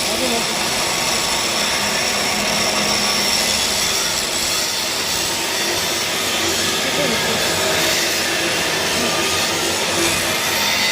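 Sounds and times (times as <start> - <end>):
welding arc hissing: 0.0 - 10.9.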